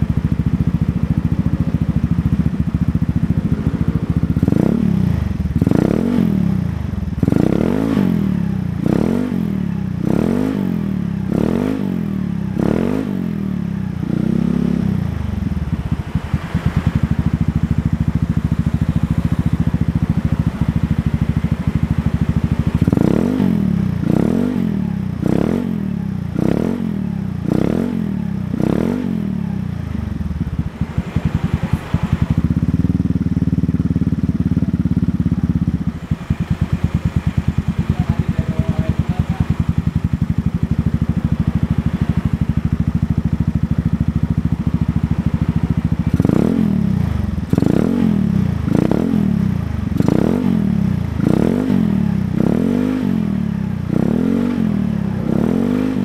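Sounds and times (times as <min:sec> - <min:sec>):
scooter engine revving and idling: 0:00.0 - 0:56.0.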